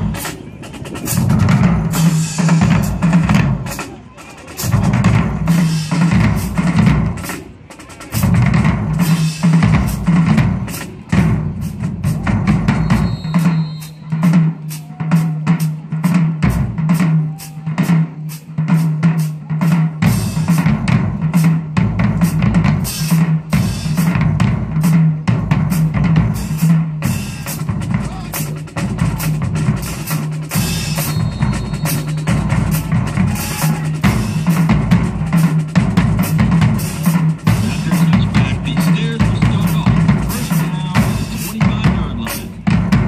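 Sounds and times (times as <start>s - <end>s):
bass drums: 0.0s - 43.0s.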